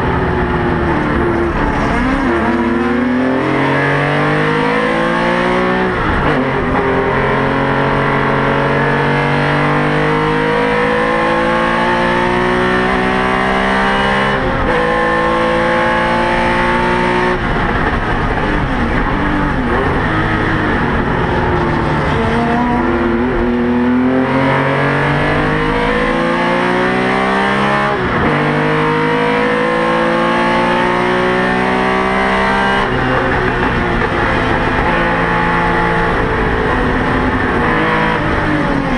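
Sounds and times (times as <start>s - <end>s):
racing car engine at full throttle: 0.0s - 38.9s.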